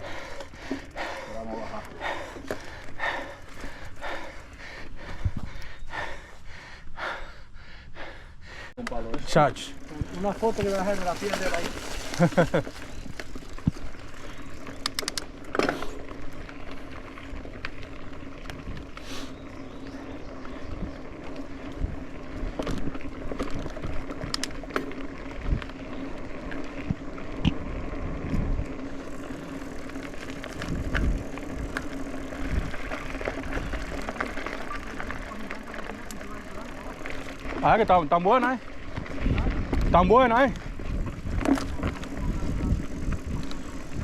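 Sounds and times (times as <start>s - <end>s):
bike clicks and rattles: 0.0s - 6.3s, 8.8s - 44.0s
bike tyres rolling on dirt: 0.0s - 44.0s.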